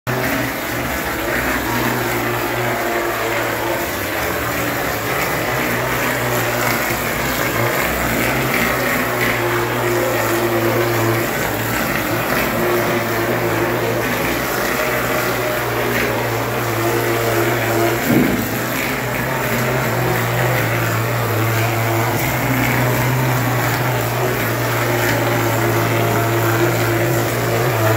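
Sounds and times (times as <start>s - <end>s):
machine hum: 0.1s - 27.9s
plaster spray gun hissing: 0.1s - 27.9s.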